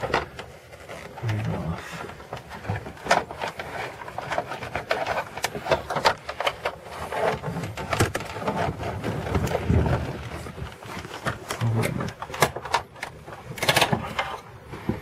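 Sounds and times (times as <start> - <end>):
plastic trim clicking and rattling: 0.0 - 14.5.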